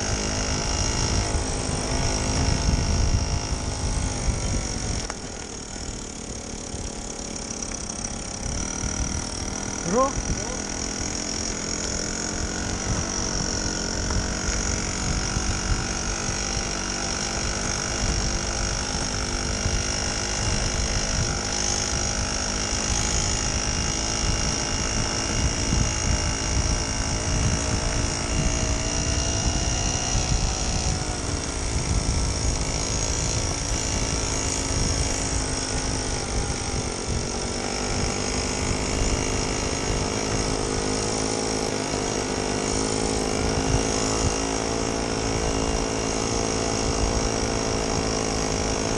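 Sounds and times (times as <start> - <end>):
two-stroke engine buzzing: 0.0 - 48.9
wheels rumbling on dirt track: 0.0 - 48.9.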